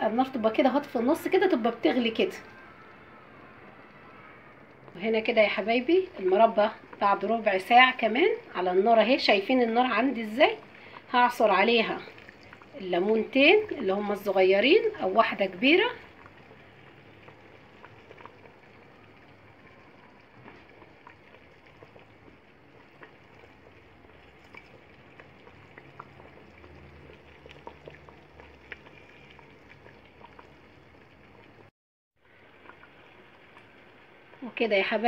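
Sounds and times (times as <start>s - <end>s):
jam bubbling in a pot: 0.0s - 35.0s.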